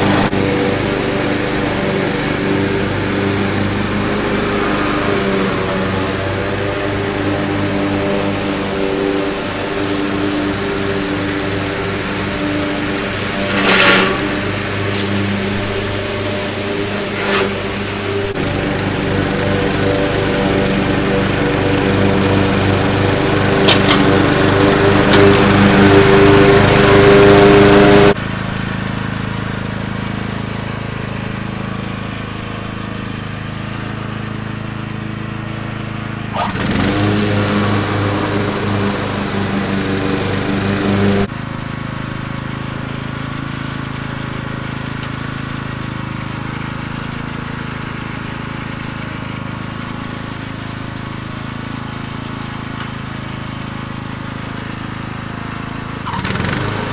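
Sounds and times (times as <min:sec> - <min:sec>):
riding lawn mower engine: 0:00.0 - 0:56.9.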